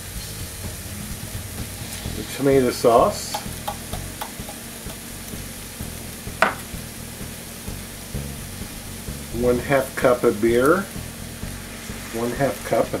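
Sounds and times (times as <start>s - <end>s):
meat sauce sizzling in skillet: 0.0s - 13.0s.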